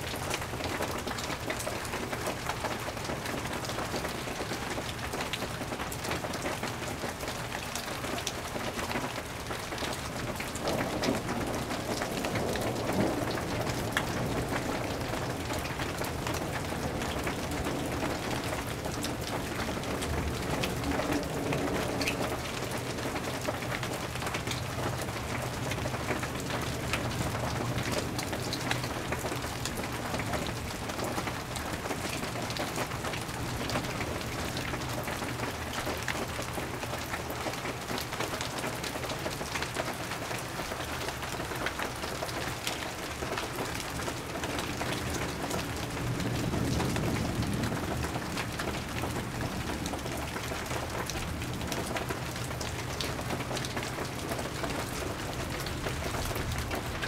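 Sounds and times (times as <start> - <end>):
rain drops on hard surfaces: 0.0 - 57.0.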